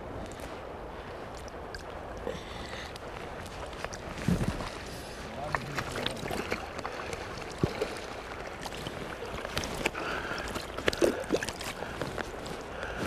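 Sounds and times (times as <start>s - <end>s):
river water flowing: 0.0s - 13.0s
small splashes and clicks: 1.3s - 13.0s.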